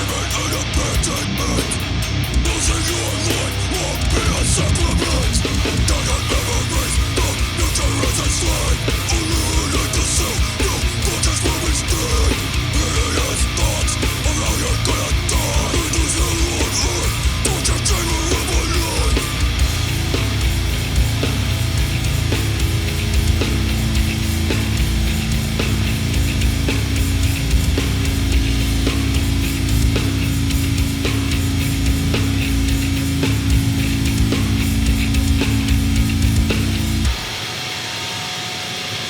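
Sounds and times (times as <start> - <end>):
distorted heavy music: 0.0 - 39.0.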